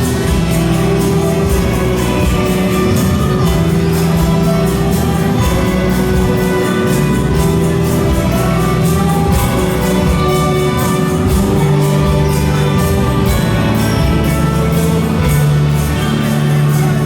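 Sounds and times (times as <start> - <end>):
orchestra playing: 0.0 - 17.0.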